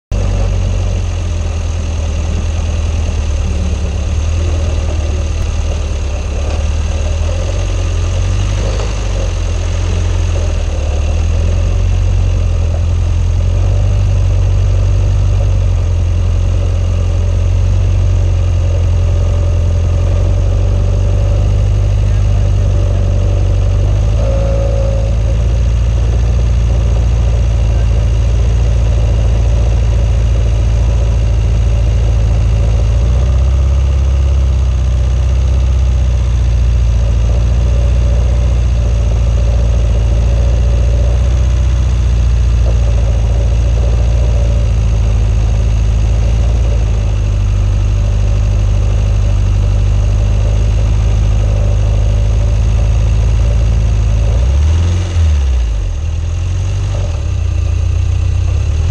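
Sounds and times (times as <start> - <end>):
loud low engine drone: 0.0 - 58.9.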